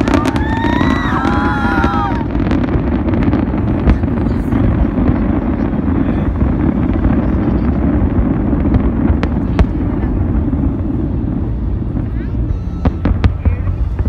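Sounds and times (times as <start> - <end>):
fireworks rumble: 0.0 - 14.0
sharp firework cracks: 0.0 - 14.0.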